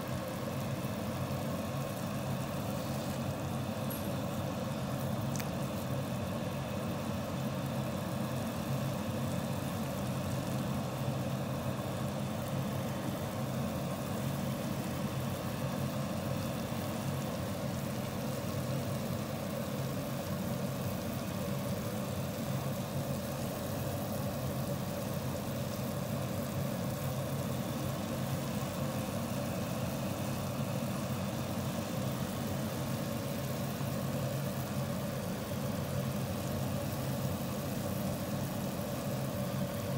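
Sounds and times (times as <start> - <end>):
light hiss: 0.0 - 39.9
low mechanical hum: 0.0 - 39.9.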